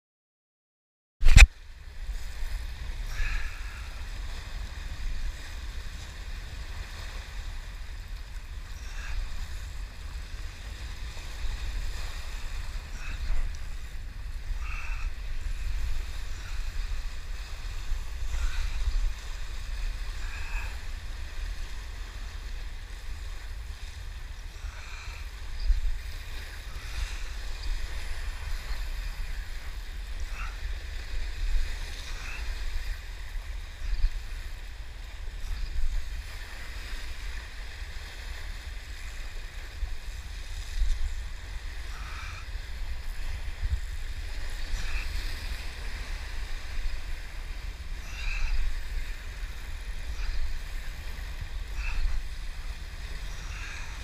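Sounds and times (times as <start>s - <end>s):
surf breaking over rocks: 1.2s - 54.0s
wind rumble on microphone: 1.2s - 54.0s.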